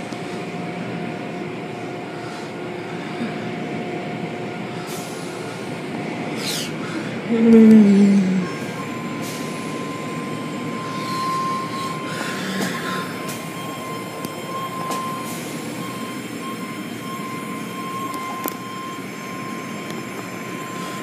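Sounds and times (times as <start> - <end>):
machinery whine: 0.0 - 21.0.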